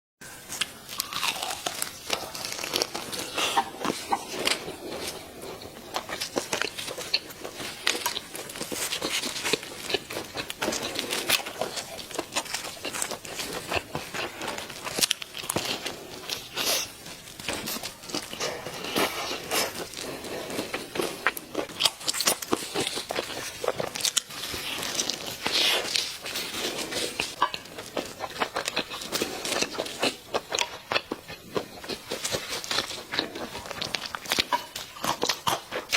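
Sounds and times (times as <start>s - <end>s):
chicken being eaten crunching: 0.5s - 35.9s.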